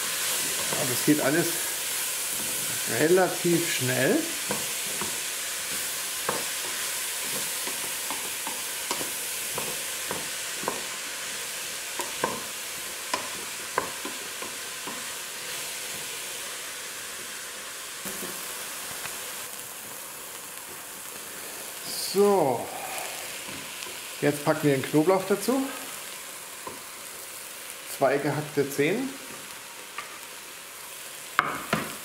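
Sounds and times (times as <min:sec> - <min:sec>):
onions sizzling in a pot: 0:00.0 - 0:32.0.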